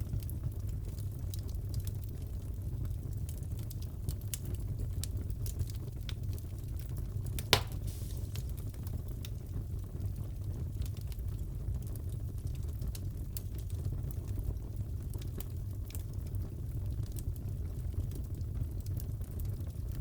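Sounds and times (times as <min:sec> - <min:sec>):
fire crackles and pops: 0:00.0 - 0:20.0
fireplace low rumble: 0:00.0 - 0:20.0.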